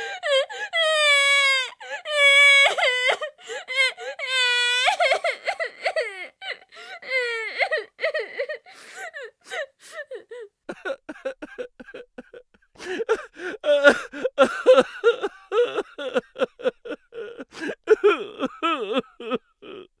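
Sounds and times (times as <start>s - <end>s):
person sobbing and wailing: 0.0s - 20.0s.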